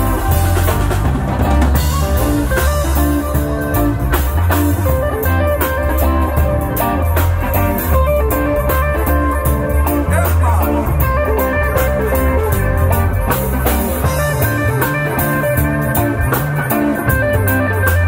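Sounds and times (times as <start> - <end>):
drum kit beat: 0.0 - 18.0
electric bass line: 0.0 - 18.0
electric guitar: 0.0 - 18.0.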